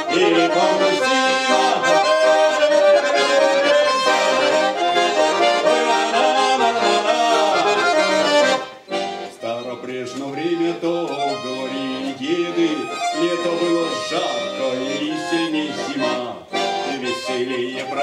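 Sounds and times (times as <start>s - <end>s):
button accordion folk melody: 0.0s - 18.0s.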